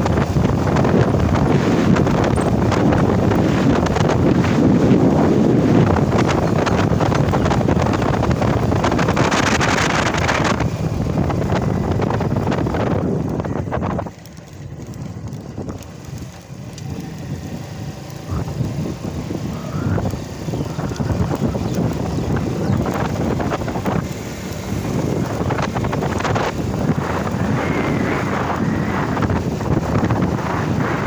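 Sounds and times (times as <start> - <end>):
motorcycle engine running: 0.0 - 31.0
road noise: 0.0 - 31.0
wind rushing over microphone: 0.0 - 31.0.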